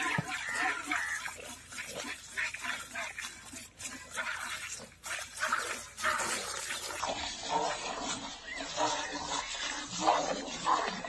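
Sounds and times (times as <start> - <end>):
milk squirting into steel bucket: 0.0 - 11.0.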